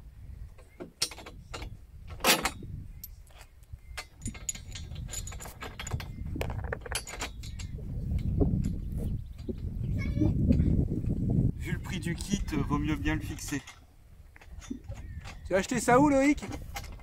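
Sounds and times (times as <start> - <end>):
metal bars clinking: 1.0 - 9.7, 12.0 - 17.0.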